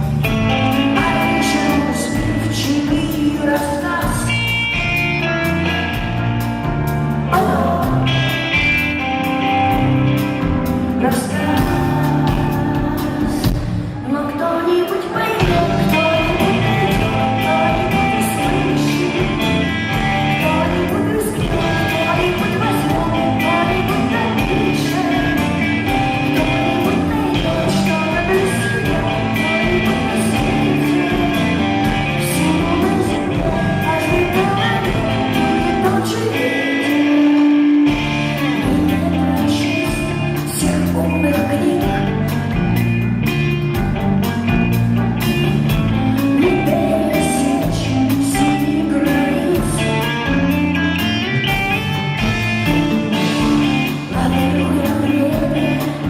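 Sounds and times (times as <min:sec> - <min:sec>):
person singing: 0:00.0 - 0:05.0, 0:07.2 - 0:43.0, 0:45.2 - 0:51.6, 0:53.0 - 0:56.0
live rock band playing: 0:00.0 - 0:56.0.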